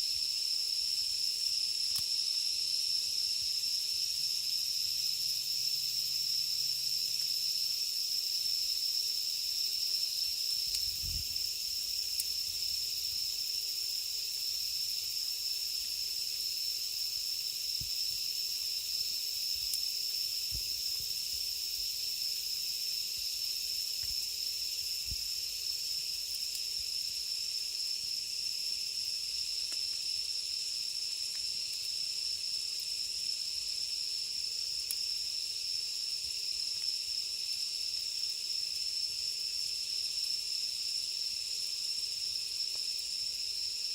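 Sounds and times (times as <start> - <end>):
cicadas droning: 0.0 - 43.9.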